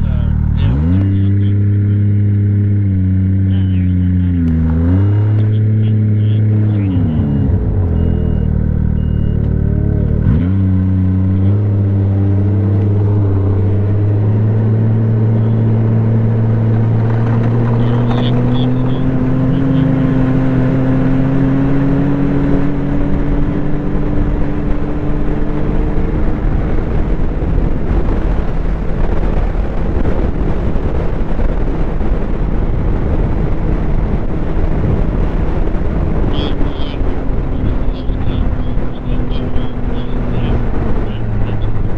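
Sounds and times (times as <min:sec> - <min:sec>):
snowmobile engine: 0:00.0 - 0:41.9
wind and track noise: 0:00.0 - 0:41.9.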